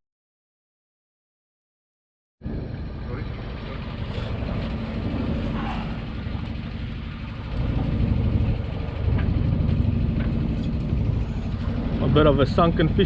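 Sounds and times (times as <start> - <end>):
boat engine running: 2.4 - 13.0.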